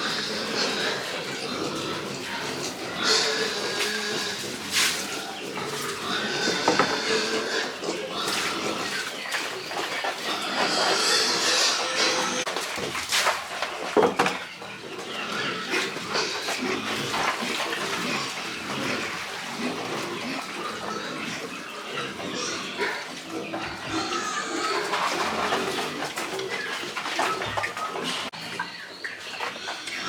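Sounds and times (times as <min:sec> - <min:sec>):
pigs grunting: 0:00.0 - 0:12.6, 0:13.6 - 0:30.0.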